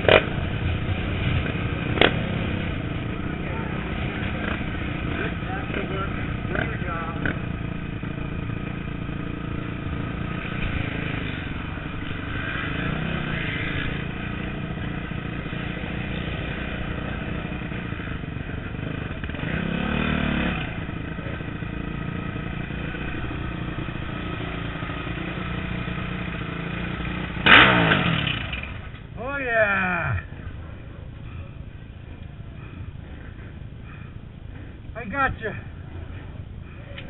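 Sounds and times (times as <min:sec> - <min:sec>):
motocross bike engine: 0:00.0 - 0:37.0.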